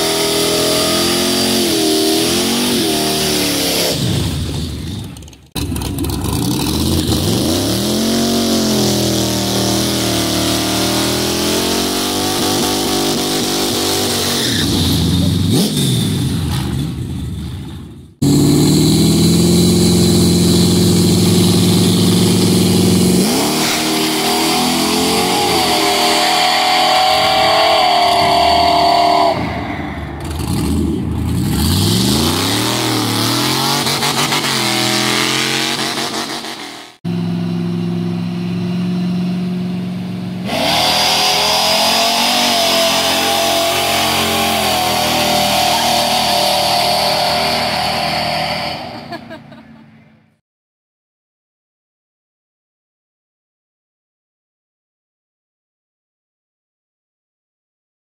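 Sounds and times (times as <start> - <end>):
racing car engines revving: 0.0 - 17.6, 18.2 - 50.2.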